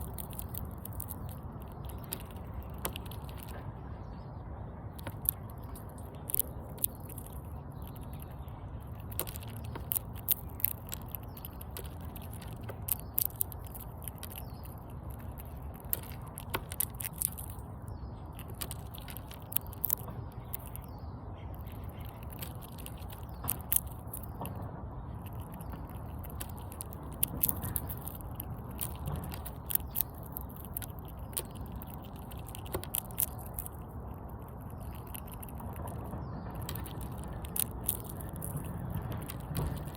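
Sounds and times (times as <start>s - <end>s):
low background rumble: 0.0s - 39.9s
squirrel gnawing and chewing: 0.0s - 39.9s.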